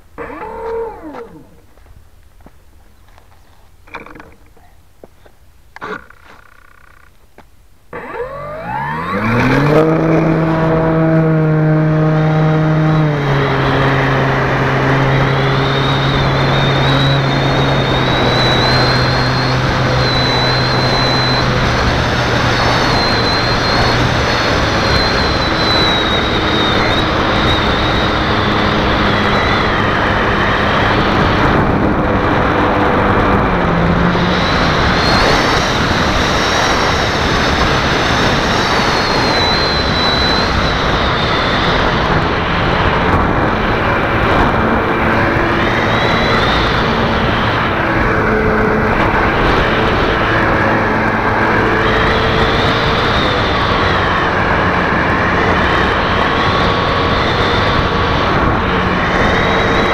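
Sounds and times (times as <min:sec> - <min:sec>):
model plane motor whine: 0:00.0 - 0:01.8, 0:07.9 - 0:59.9
propeller and wind rush: 0:00.0 - 0:59.9.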